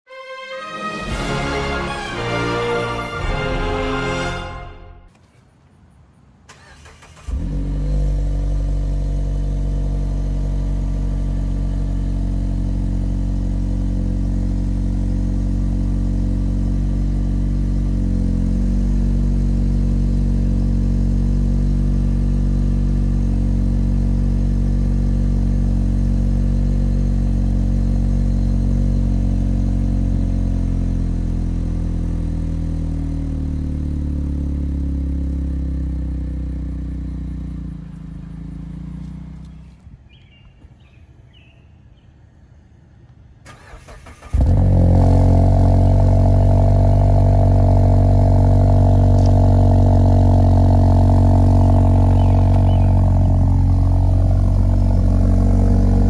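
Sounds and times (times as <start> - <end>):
car engine starting and idling: 1.0 - 41.5, 43.0 - 56.0.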